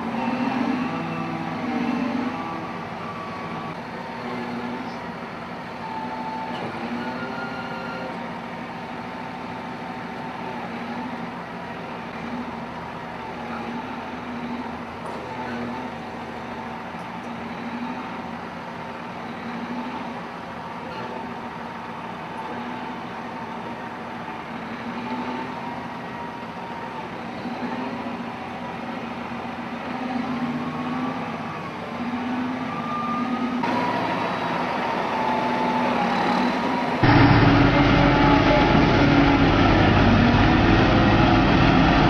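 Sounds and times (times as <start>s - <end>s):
heavy machine engine humming: 0.0s - 42.0s.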